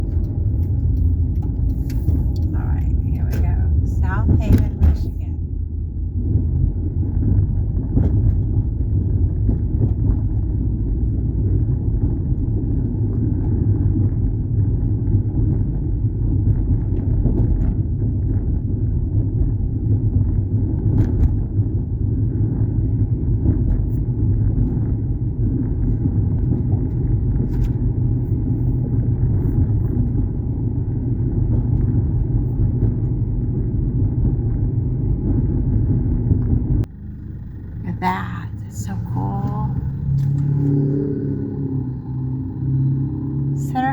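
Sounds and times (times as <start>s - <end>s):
car cabin road and engine rumble: 0.0s - 43.9s.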